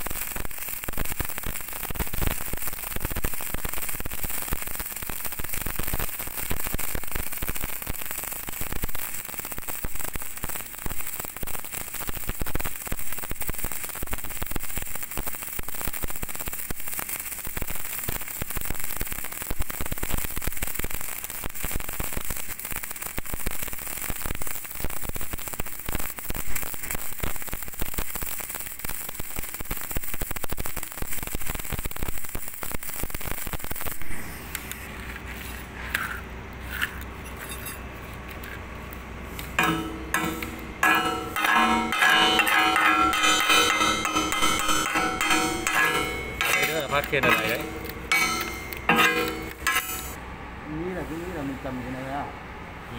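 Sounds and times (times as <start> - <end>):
welding arc crackling: 0.0 - 50.2.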